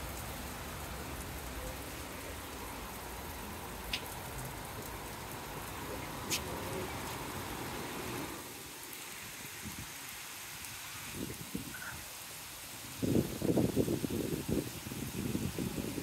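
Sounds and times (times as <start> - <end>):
heavy rain on rooftops: 0.0 - 16.0.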